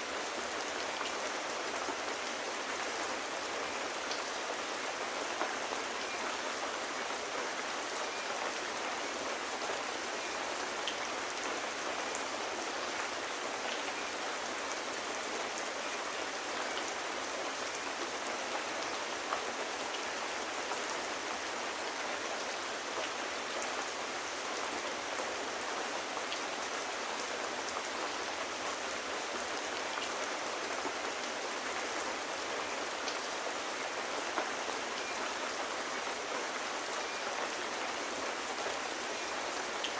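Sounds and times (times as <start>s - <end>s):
rain hissing on a surface: 0.0s - 39.9s.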